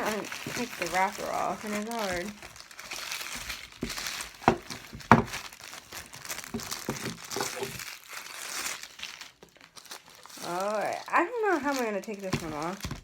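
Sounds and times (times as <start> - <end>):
wrapper crinkling: 0.0 - 13.0
wrapper snapping: 0.0 - 13.0.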